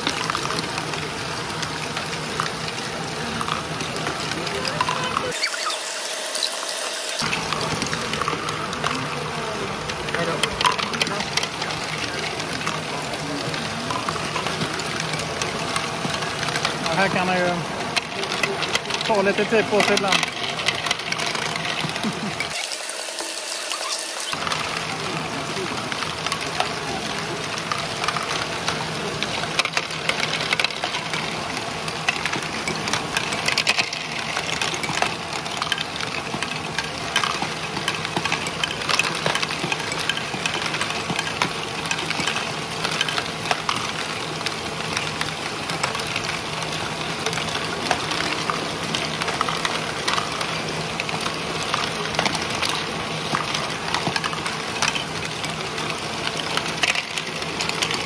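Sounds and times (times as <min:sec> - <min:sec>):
plastic balls clattering: 0:00.0 - 0:58.0
small clicks and ticks: 0:00.0 - 0:58.0
small electric motors humming: 0:00.0 - 0:58.0.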